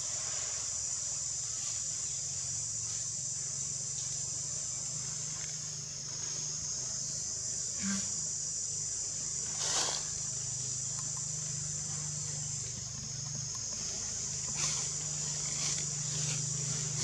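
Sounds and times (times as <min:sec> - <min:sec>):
insect chorus buzzing: 0:00.0 - 0:17.0.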